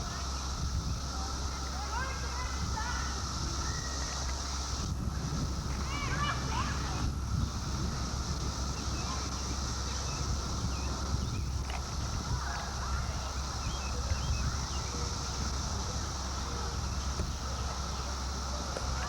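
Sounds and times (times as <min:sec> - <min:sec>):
cicadas droning: 0:00.0 - 0:19.0
low steady rumble: 0:00.0 - 0:19.0.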